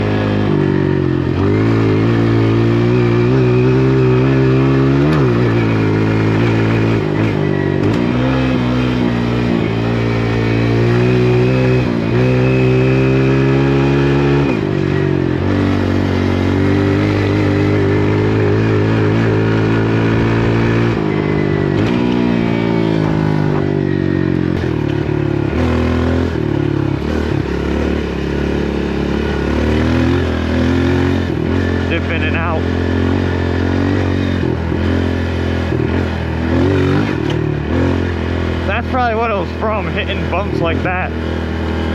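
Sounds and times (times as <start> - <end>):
dirt bike engine running: 0.0 - 41.9.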